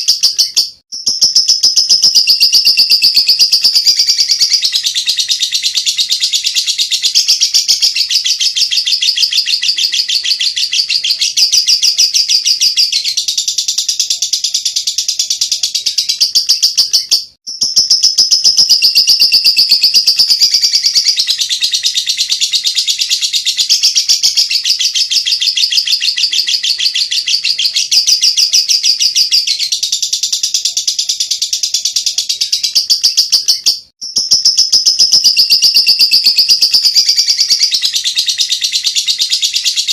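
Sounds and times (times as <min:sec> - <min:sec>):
lovebird high-pitched chattering: 0:00.0 - 0:39.9.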